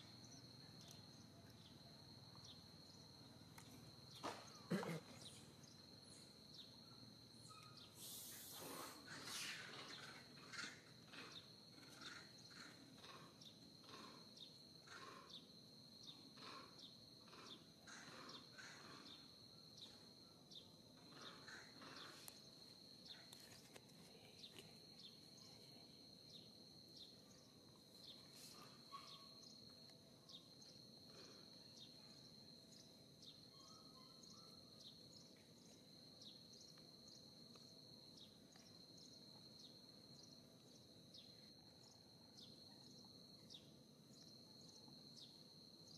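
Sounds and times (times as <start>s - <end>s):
insect chirps: 0.0s - 45.9s
insect drone: 0.0s - 45.9s.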